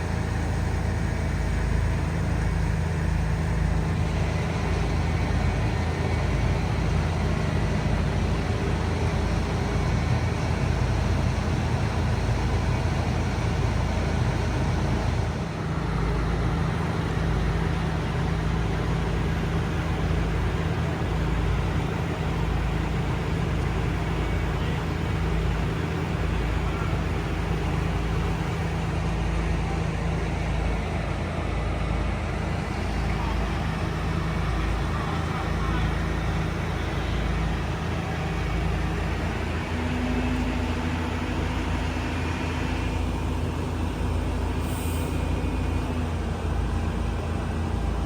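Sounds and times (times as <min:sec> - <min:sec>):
heavy machinery engine hum: 0:00.0 - 0:48.0.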